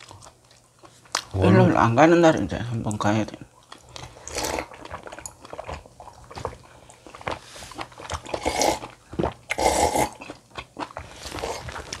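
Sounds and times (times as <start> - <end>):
wet chewing and mouth sounds: 0.0 - 1.4, 2.9 - 12.0.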